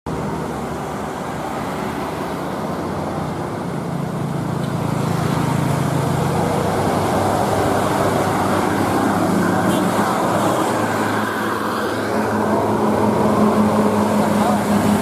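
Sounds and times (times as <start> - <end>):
road traffic: 0.0 - 15.0
vehicle engine humming: 0.1 - 15.0.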